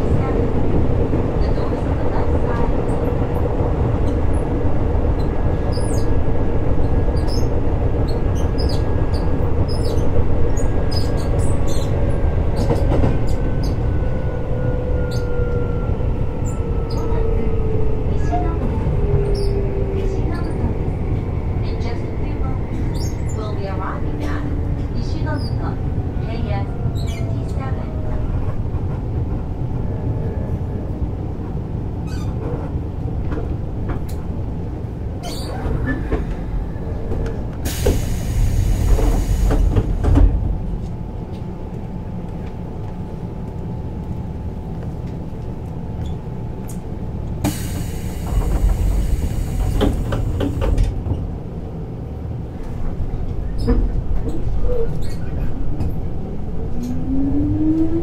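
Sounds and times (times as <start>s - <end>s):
train interior rumble: 0.0s - 58.0s.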